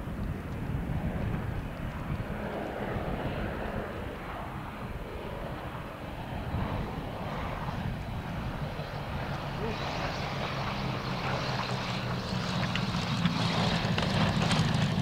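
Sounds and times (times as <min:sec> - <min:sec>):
aircraft engine rumbling: 0:00.0 - 0:15.0.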